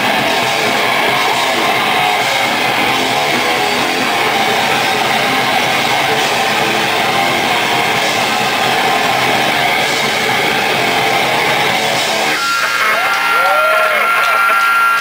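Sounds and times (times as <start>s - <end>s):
amp feedback whine: 0.0s - 15.0s
distorted band playing fast: 0.0s - 15.0s.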